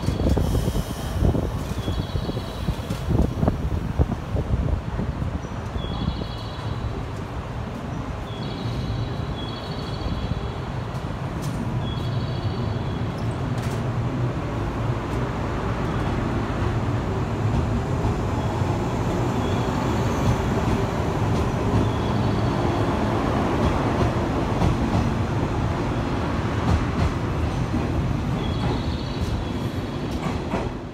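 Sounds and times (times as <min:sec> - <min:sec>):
train cars rumbling on rails: 0:00.0 - 0:30.9.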